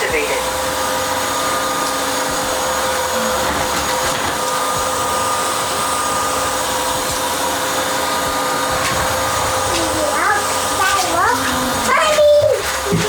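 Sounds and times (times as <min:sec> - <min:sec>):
vacuum mop motor and fan hum: 0:00.0 - 0:13.0.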